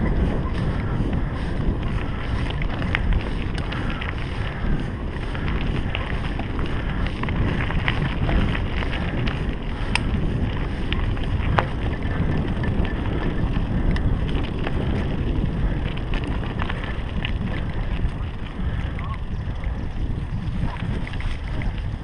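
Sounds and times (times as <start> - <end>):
bike clicks and rattles: 0.0 - 22.0
bike tyre rumble: 0.0 - 22.0
wind buffeting microphone: 0.0 - 22.0.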